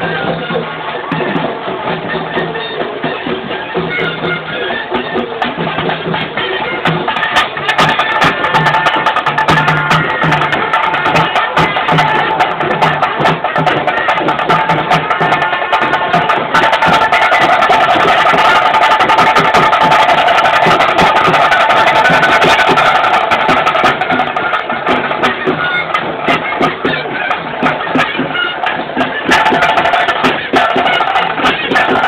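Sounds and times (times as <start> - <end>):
drums and clattering percussion: 0.0 - 32.0.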